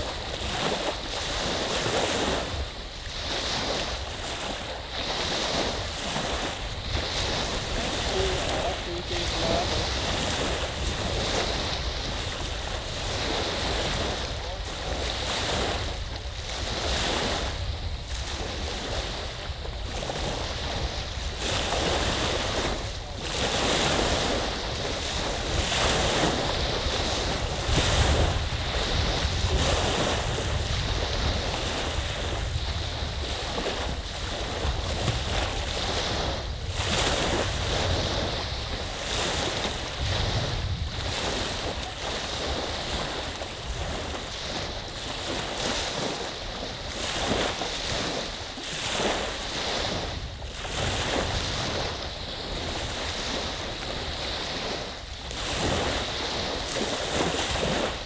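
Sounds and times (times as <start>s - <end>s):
waves washing onto shore: 0.0s - 58.0s
wind buffeting microphone: 0.0s - 58.0s.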